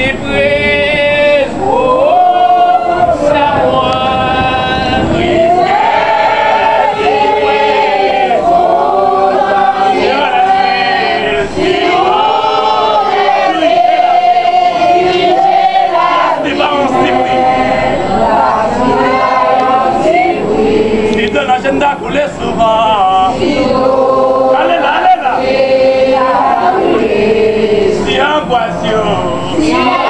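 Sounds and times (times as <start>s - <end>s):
congregation singing a chant: 0.0s - 30.0s.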